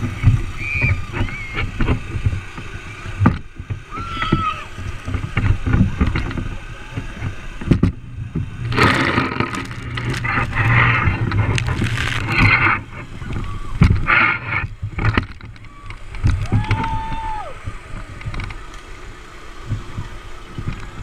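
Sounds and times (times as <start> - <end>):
scraping and rough knocks: 0.0 - 16.9
water spraying and splashing: 0.0 - 21.0.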